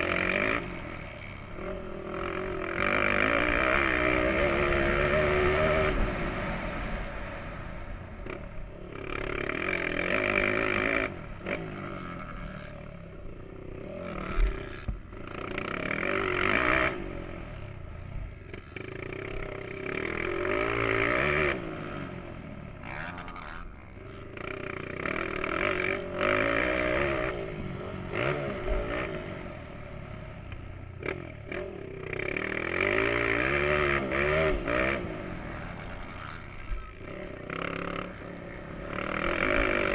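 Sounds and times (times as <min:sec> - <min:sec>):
motocross bike engine revving: 0:00.0 - 0:07.4, 0:08.2 - 0:39.9.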